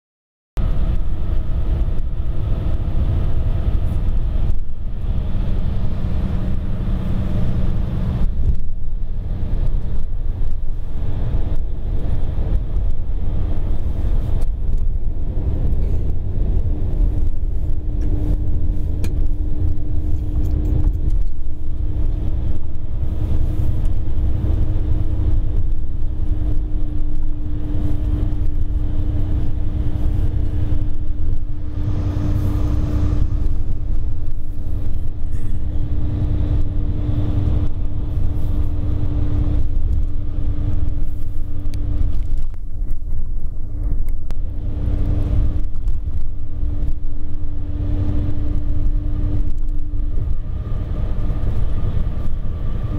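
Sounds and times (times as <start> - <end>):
constant hum: 0.6 - 52.9
train wheels rumbling on track: 0.6 - 52.9.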